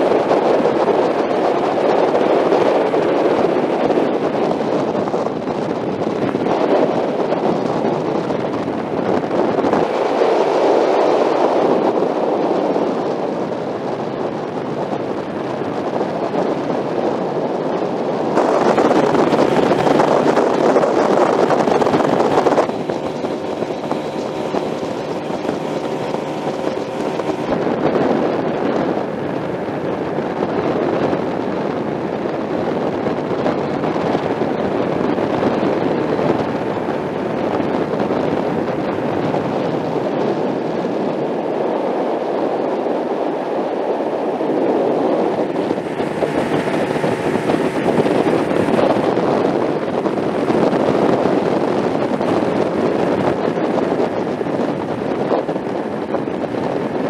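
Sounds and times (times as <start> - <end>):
wind on microphone: 0.0 - 57.0.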